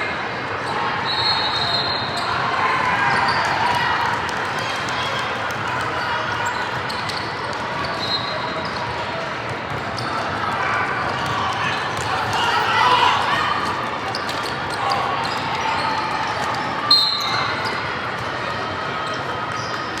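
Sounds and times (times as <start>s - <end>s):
hubbub of indistinct voices: 0.0s - 20.0s.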